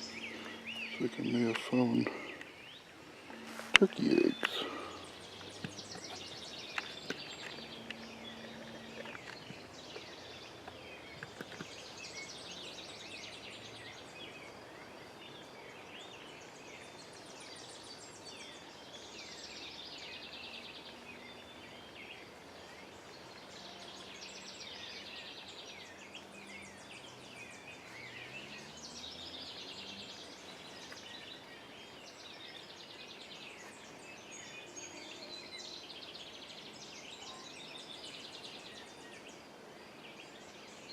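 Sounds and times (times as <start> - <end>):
songbirds singing: 0.0 - 40.9
steady background hiss: 0.0 - 40.9.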